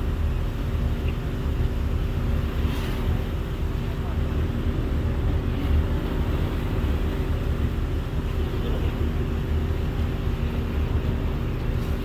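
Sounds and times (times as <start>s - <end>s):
constant hum: 0.0s - 12.0s
ferry diesel engine droning: 0.0s - 12.0s.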